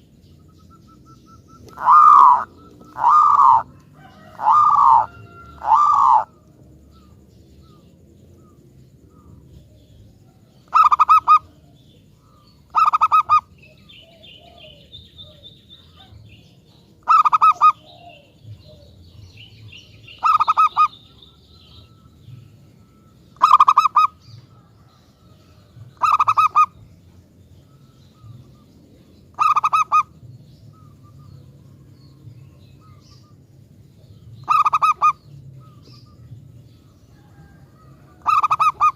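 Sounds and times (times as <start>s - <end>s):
faint high chirping: 0.0s - 38.9s
dove cooing: 0.7s - 26.9s, 27.8s - 31.7s, 34.2s - 38.9s.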